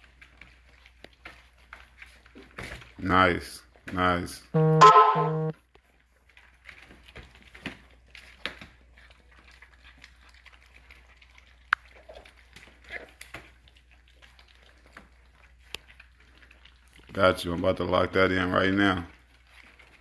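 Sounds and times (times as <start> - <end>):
puppies chewing and lapping: 0.0 - 4.5, 5.6 - 20.0.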